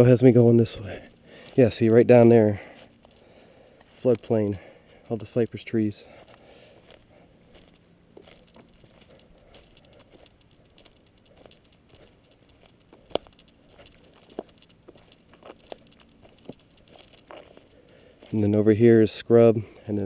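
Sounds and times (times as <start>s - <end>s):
footsteps on dry leaves: 0.0s - 18.8s
sharp ticks: 0.0s - 19.6s.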